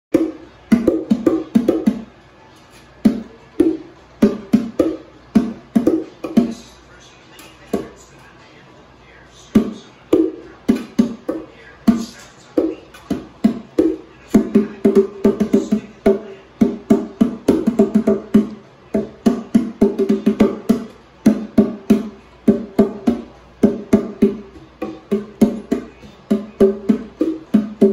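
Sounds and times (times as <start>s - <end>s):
bongo drums struck rapidly: 0.1s - 2.1s, 3.0s - 6.6s, 9.6s - 27.9s.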